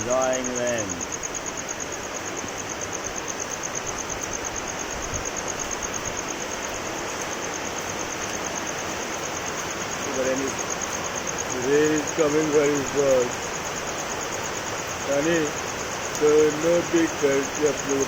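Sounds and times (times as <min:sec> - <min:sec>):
high-pitched insect chirp: 0:00.0 - 0:18.0
steady rain falling: 0:00.0 - 0:18.0.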